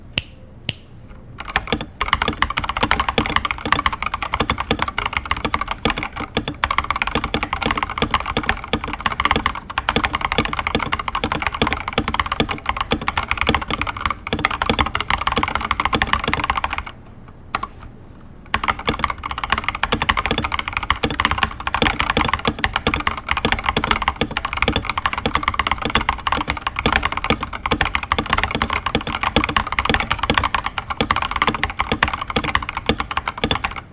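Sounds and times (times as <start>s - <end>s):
mechanical keyboard typing: 1.4s - 17.7s, 18.5s - 33.9s.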